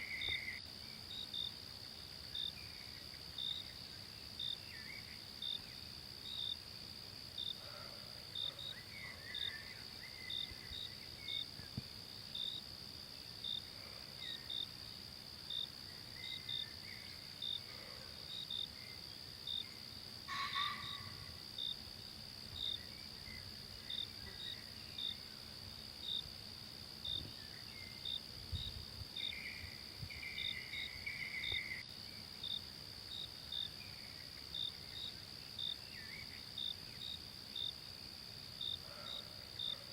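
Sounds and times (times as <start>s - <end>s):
cricket-like chirping: 0.0s - 39.9s
insects buzzing: 0.0s - 39.9s.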